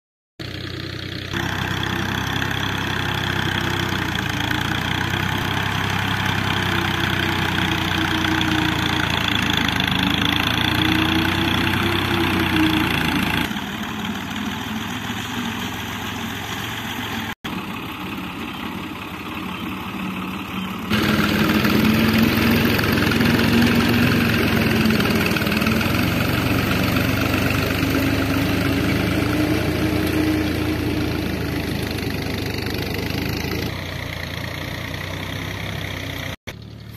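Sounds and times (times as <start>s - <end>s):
tractor diesel engine under load: 0.4s - 36.9s.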